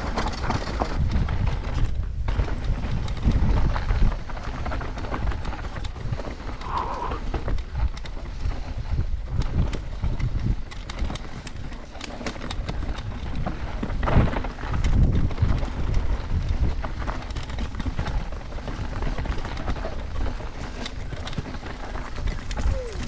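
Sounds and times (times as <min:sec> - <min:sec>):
bike rattling over bumps: 0:00.0 - 0:23.0
tyres rolling over dirt: 0:00.0 - 0:23.0
wind buffeting: 0:00.8 - 0:11.8, 0:12.7 - 0:23.0.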